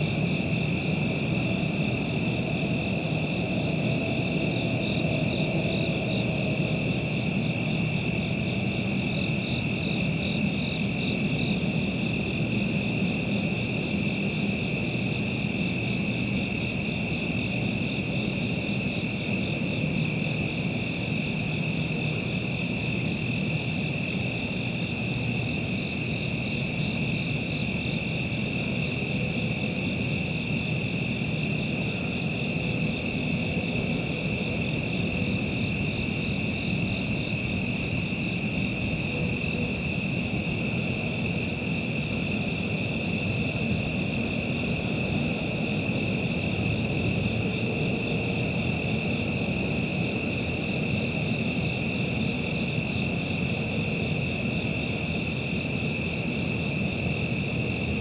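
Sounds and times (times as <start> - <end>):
crickets and insects trilling: 0.0 - 58.0.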